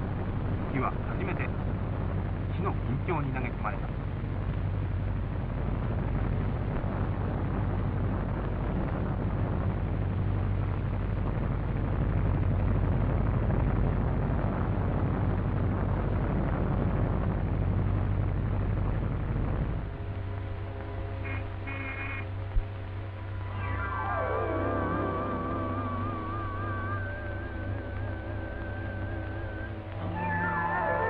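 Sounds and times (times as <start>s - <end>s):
bomber engines roaring: 0.0s - 31.0s
film soundtrack noise: 0.0s - 31.0s
low hum: 0.0s - 31.0s.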